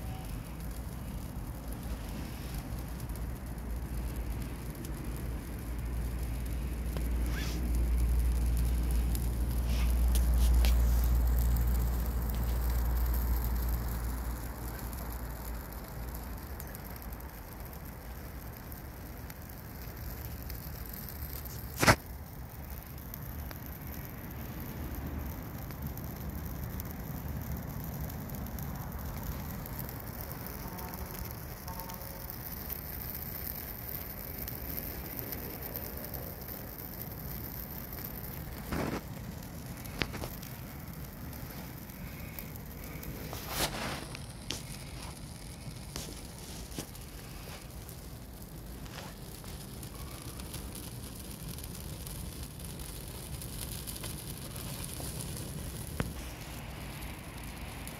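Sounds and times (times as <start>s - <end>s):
loud pop from fire: 0.0s - 17.8s, 19.4s - 57.9s
fire hissing and crackling: 0.0s - 57.9s.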